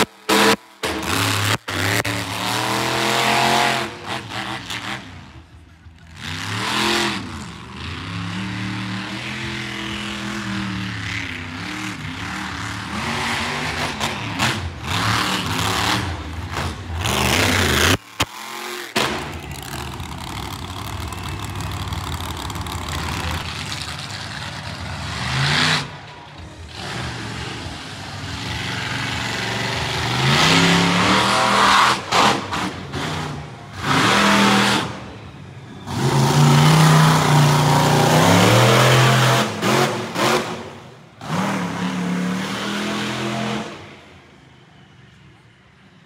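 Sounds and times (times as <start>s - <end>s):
monster truck engine revving: 0.0s - 44.6s.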